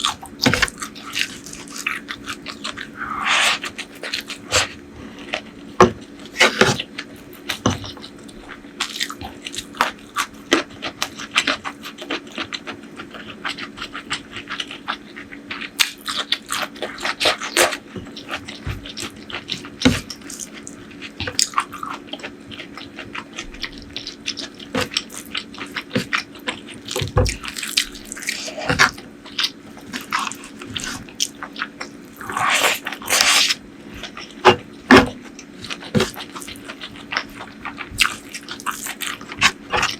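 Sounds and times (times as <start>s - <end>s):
faint steady hum: 0.0s - 39.9s
person chewing with wet smacks: 0.0s - 39.9s.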